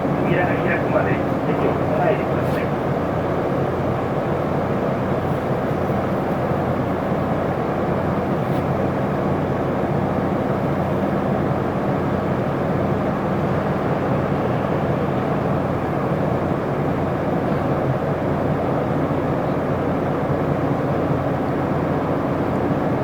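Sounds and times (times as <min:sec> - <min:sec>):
bus diesel engine humming: 0:00.0 - 0:23.0
road and cabin noise: 0:00.0 - 0:23.0.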